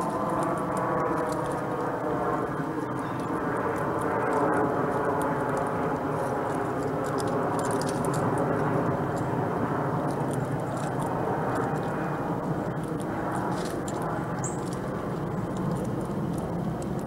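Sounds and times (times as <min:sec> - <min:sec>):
squirrel cracking and chewing seeds: 0:00.0 - 0:17.0
steady low rumble: 0:00.0 - 0:17.0.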